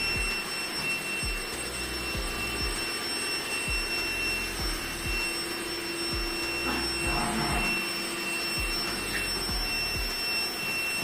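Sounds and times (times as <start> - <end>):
robot vacuum humming: 0.0 - 11.0.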